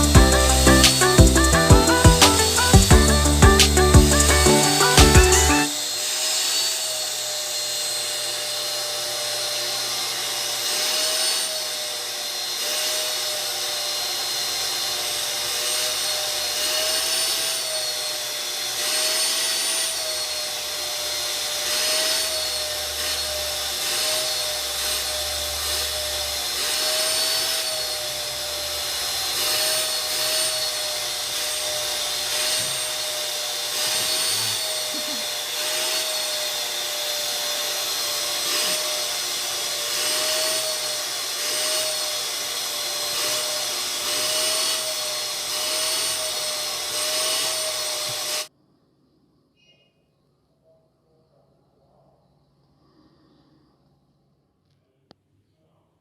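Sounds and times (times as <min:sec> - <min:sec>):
vacuum cleaner running: 0:00.0 - 0:48.5.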